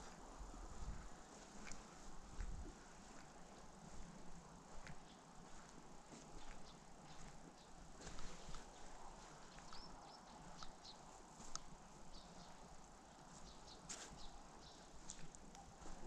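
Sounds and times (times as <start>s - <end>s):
footsteps on dirt: 0.0s - 16.0s
low steady hiss: 0.0s - 16.0s
small birds chirping: 0.8s - 16.0s.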